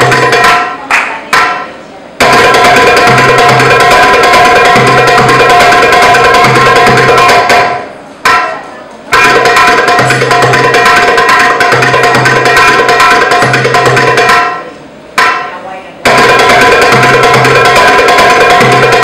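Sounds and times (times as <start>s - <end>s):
rapid hand drum rhythm: 0.0s - 14.6s, 15.2s - 19.0s.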